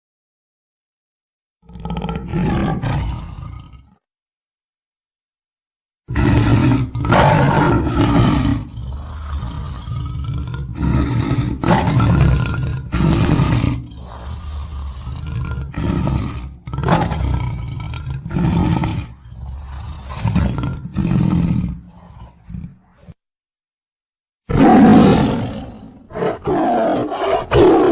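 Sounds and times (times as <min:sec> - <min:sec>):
tiger growling: 0:01.6 - 0:04.0, 0:06.1 - 0:23.2, 0:24.5 - 0:27.9
tiger roaring: 0:01.6 - 0:04.0, 0:06.1 - 0:23.2, 0:24.5 - 0:27.9.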